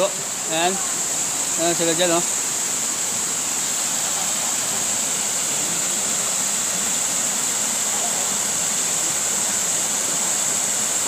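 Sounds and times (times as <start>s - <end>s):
high-pitched hiss: 0.0s - 11.0s
waterfall pouring into pool: 0.0s - 11.0s.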